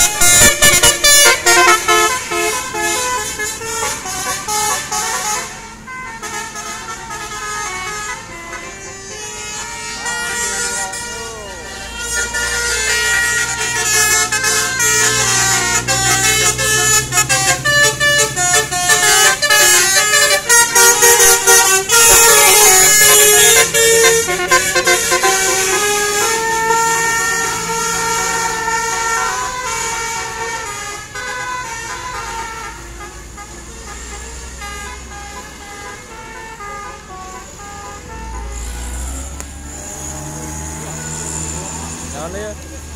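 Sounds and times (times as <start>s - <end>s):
multi-tone bus air horn tune: 0.0s - 42.3s
bus engine rumble: 0.0s - 42.9s.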